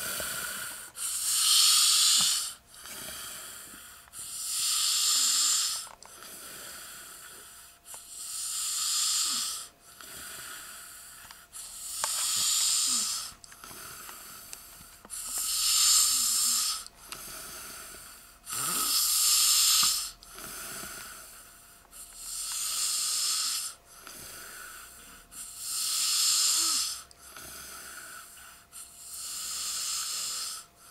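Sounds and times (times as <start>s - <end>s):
man snoring: 0.0s - 30.9s
quiet breaths: 0.0s - 30.9s.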